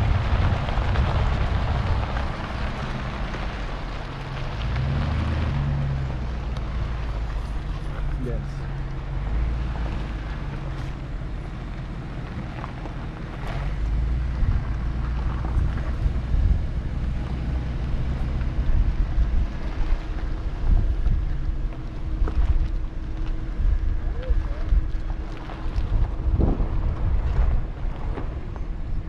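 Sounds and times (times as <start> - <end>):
road rumble: 0.0 - 29.0
truck engine drone: 0.0 - 29.0
wind buffeting microphone: 0.0 - 29.0.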